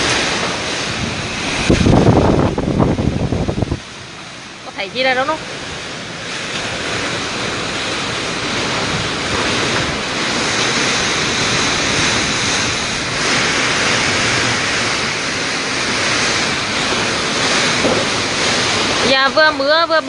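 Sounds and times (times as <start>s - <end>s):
heavy driving rain: 0.0s - 20.0s
strong wind: 0.0s - 20.0s.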